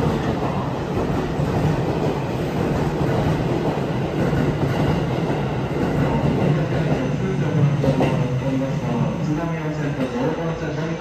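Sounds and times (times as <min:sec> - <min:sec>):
electric train rolling past: 0:00.0 - 0:11.0.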